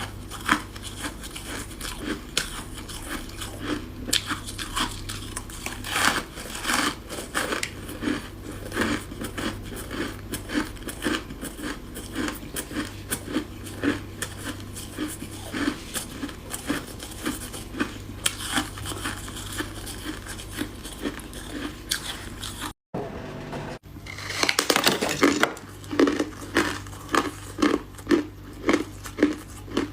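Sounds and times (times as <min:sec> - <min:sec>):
frost crunching between teeth: 0:00.0 - 0:22.8, 0:24.1 - 0:29.9
faint low hum: 0:00.0 - 0:29.9.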